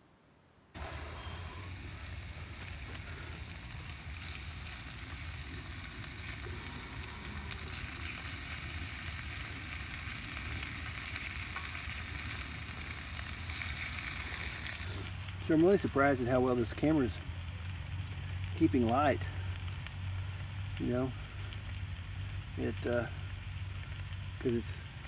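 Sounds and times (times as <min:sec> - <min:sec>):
food sizzling over campfire: 0:00.8 - 0:25.0.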